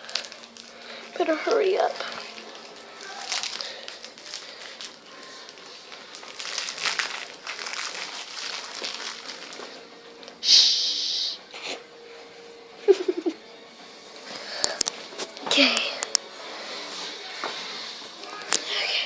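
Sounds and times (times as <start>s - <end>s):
rustling and handling noises: 0.0s - 10.4s, 14.1s - 19.0s.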